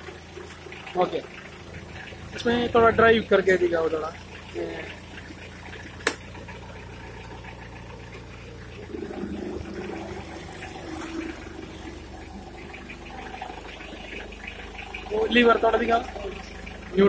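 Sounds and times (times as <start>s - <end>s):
forklift engine idling: 0.0s - 17.0s.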